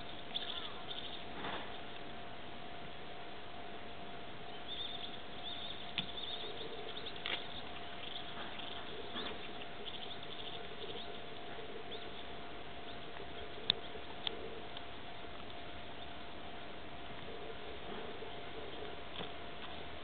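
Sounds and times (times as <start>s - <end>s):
faint steady hum: 0.0s - 20.0s
steady hiss: 0.0s - 20.0s.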